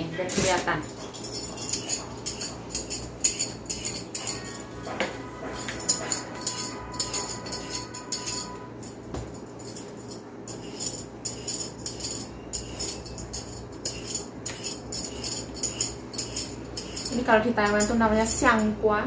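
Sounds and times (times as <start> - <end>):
light ringing clink: 0.9 - 18.8.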